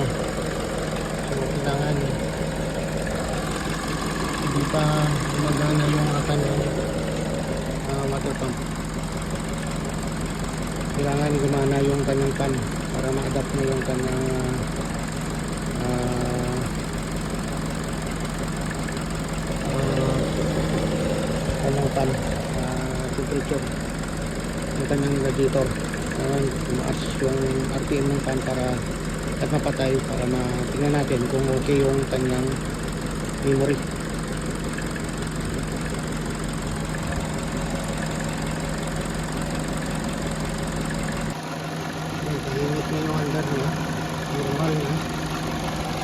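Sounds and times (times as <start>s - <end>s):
car engine idling: 0.0s - 46.0s
electric radiator fan running: 0.0s - 46.0s.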